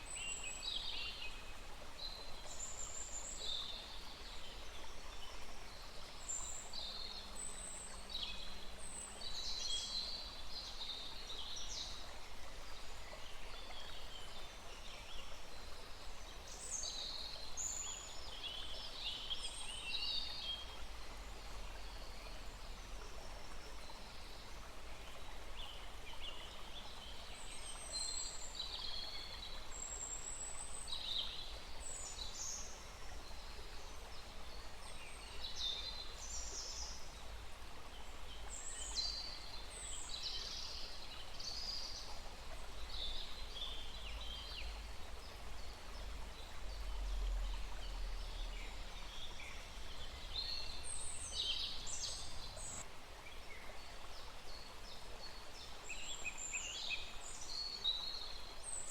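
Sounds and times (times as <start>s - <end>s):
songbirds chirping: 2.0s - 58.9s.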